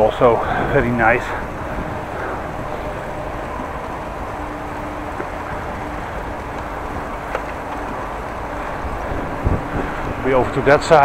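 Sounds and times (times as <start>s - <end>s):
bicycle road noise: 0.0s - 11.0s
wind rumbling on microphone: 0.0s - 11.0s.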